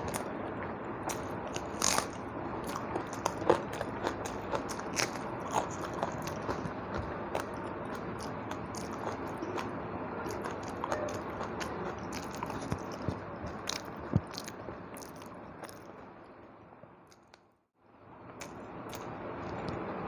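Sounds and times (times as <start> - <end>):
person chewing food: 0.0 - 16.1, 18.4 - 19.8.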